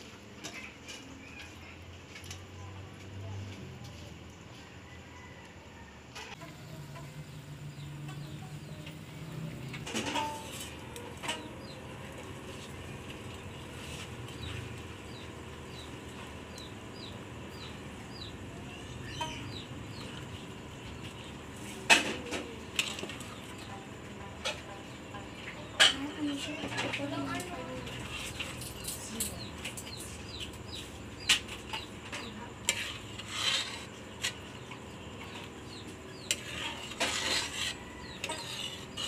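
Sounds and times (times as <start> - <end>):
birds chirping: 6.4 - 39.0.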